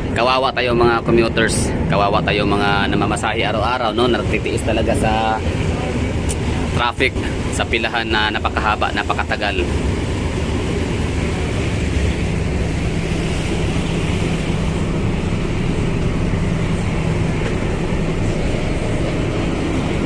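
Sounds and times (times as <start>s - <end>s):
ferry engine hum: 0.0s - 20.0s
rush of wind and water: 0.0s - 20.0s.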